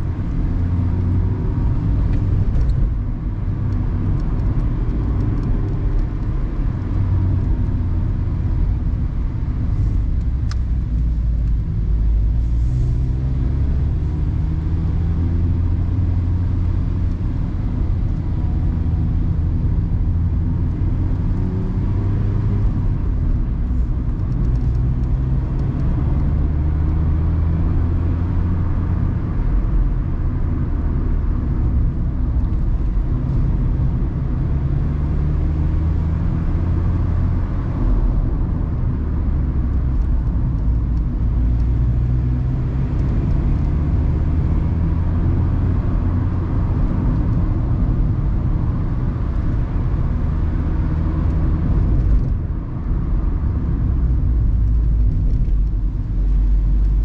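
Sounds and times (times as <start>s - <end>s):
car engine pulling uphill: 0.0s - 57.0s.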